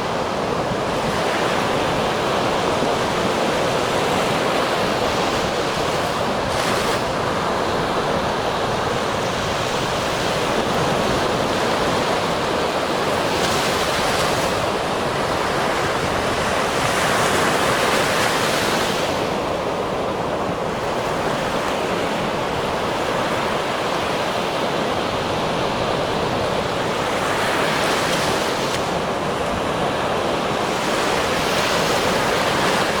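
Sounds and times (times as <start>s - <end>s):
ocean waves washing: 0.0s - 33.0s.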